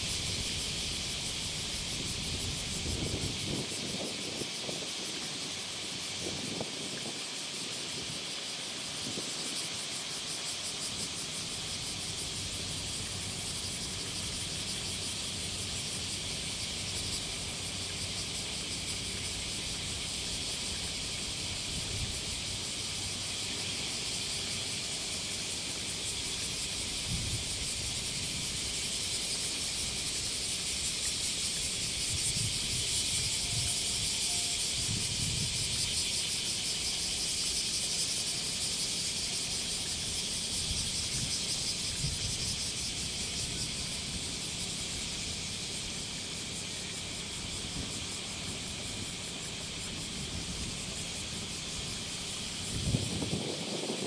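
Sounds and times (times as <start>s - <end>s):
buzzing insects: 0.0s - 54.0s.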